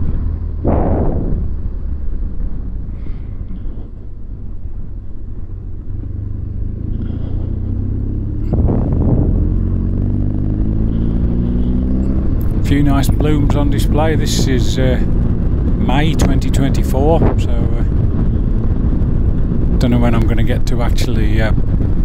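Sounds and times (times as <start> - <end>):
motorcycle engine running: 0.0 - 20.0
wind noise: 0.0 - 22.0.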